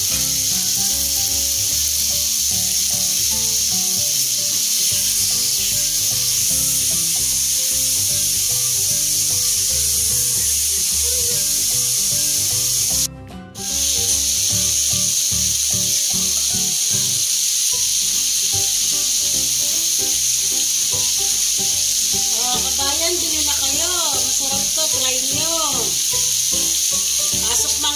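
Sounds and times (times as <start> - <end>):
meat sizzling on grill: 0.0 - 27.9
quiet background music: 0.0 - 27.9.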